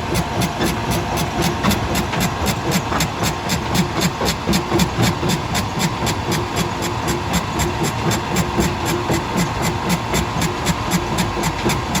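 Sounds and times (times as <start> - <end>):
rapid machinery clatter: 0.0 - 12.0.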